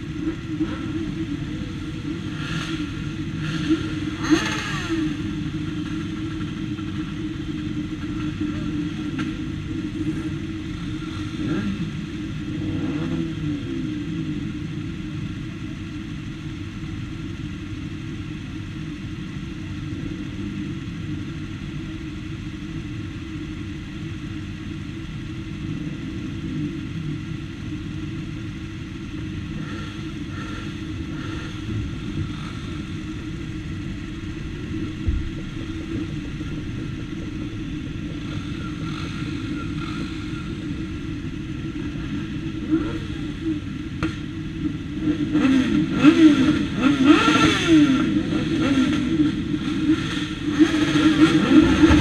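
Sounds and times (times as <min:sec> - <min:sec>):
motorcycle engines idling: 0:00.0 - 0:52.0.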